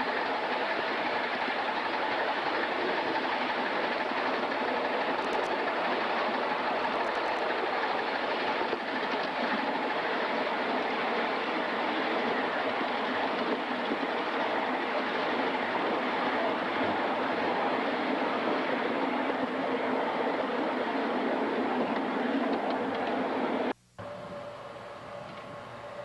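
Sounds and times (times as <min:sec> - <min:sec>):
steam locomotive rushing: 0:00.0 - 0:26.0.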